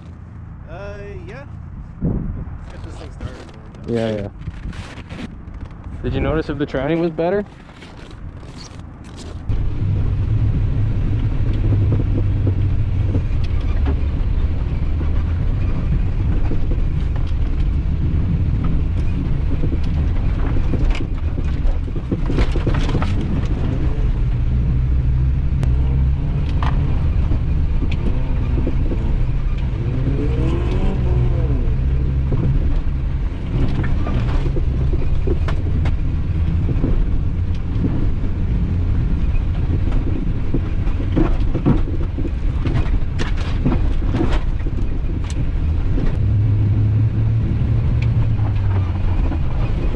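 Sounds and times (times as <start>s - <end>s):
car engine starting and revving: 8.2s - 49.9s.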